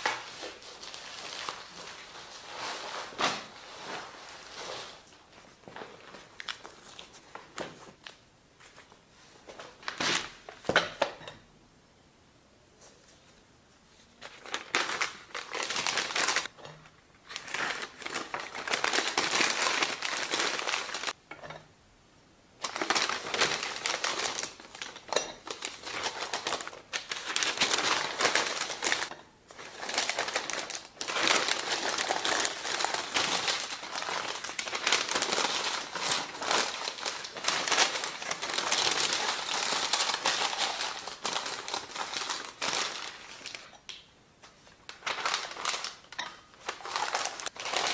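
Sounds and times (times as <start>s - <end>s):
packing paper crinkling: 0.0s - 8.9s, 14.2s - 16.5s, 17.2s - 21.2s, 22.6s - 44.0s, 44.7s - 47.9s.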